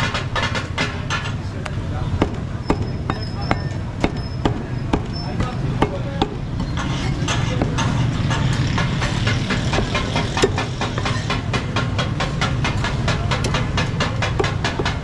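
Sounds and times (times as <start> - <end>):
cleaver chopping meat on wood: 0.0 - 1.3, 2.2 - 6.4, 7.3 - 15.0.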